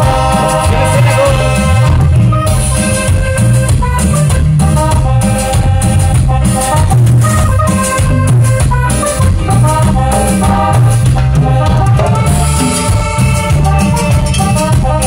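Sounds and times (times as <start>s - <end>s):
bass line: 0.0s - 15.0s
live band playing: 0.0s - 15.0s
percussion beat: 0.0s - 15.0s.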